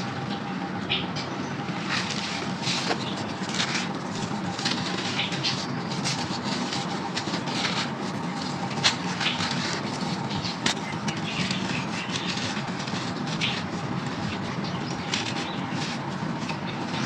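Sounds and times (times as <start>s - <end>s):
gritty clay crackling: 1.4s - 17.0s.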